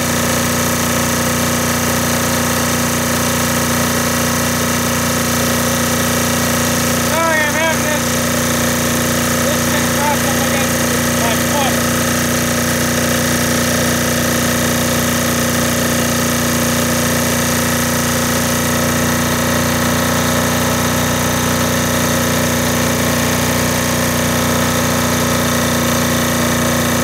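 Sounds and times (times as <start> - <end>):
diesel generator engine running: 0.0 - 27.0.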